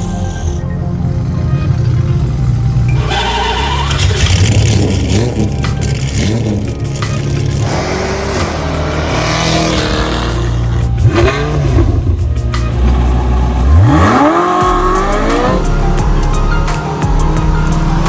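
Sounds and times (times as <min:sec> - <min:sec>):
car engine revving: 0:02.7 - 0:18.0.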